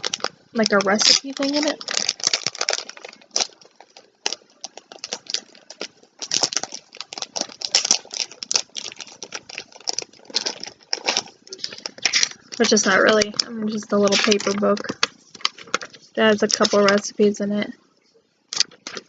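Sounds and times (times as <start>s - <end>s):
packaging crinkling and rustling: 0.0s - 17.2s, 18.5s - 19.0s.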